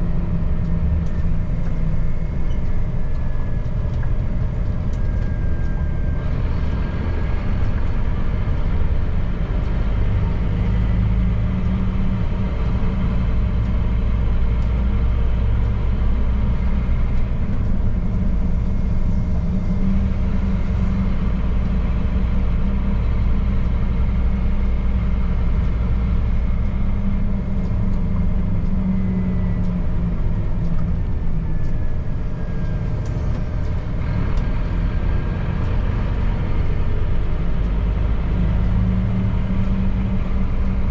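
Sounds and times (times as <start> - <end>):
truck diesel engine drone: 0.0 - 40.9.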